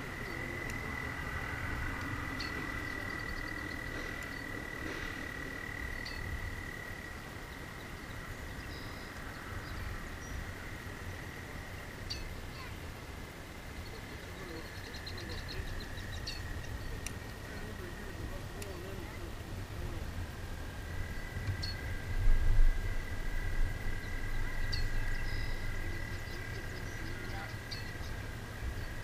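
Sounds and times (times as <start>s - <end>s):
frogs trilling: 0.0s - 29.0s
wind rumble: 0.0s - 29.0s.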